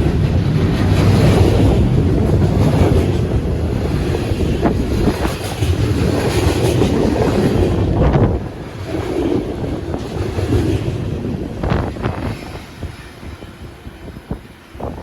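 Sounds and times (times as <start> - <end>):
wheels clicking over rail joints: 0.0 - 12.6
freight train rolling past: 0.0 - 15.0
wind buffeting microphone: 0.0 - 15.0.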